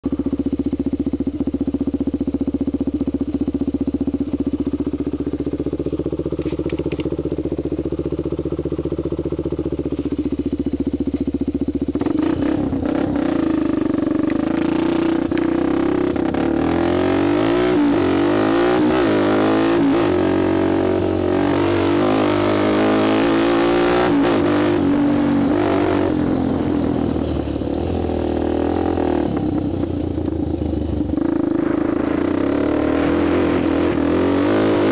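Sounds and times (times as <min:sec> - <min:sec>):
quad engine idling and revving: 0:00.0 - 0:34.9.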